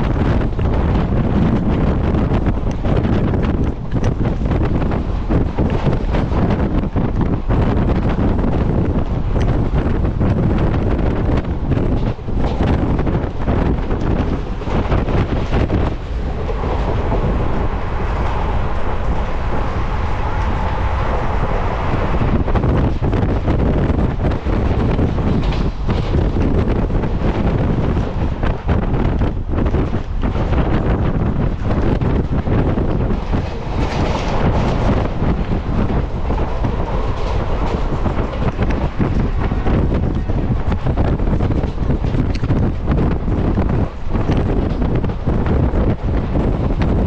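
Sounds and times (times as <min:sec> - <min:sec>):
train wheels rumbling on track: 0:00.0 - 0:47.0
wind buffeting microphone: 0:00.0 - 0:47.0.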